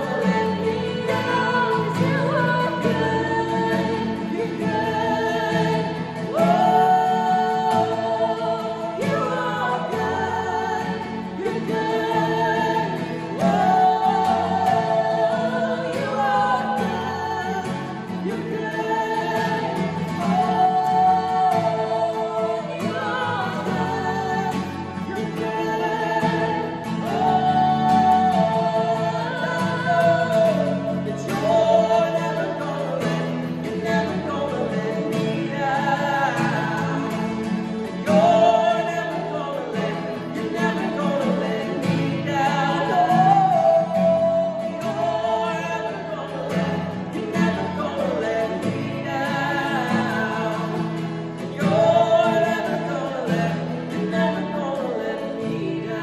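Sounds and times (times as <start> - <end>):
man and woman singing worship song: 0.0 - 56.0
strummed acoustic guitar: 0.0 - 56.0.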